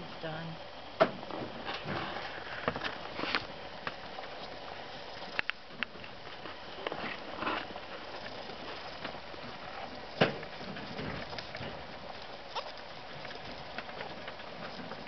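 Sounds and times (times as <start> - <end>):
hay rustling and crackling: 1.5 - 15.0.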